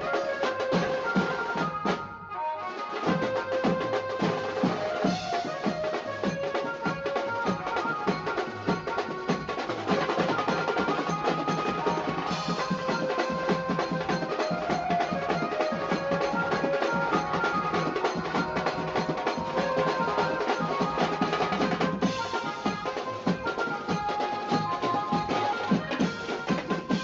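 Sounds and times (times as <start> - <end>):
fast steady drumming: 0.0 - 2.2, 2.8 - 27.0
melody of held notes: 0.0 - 27.0.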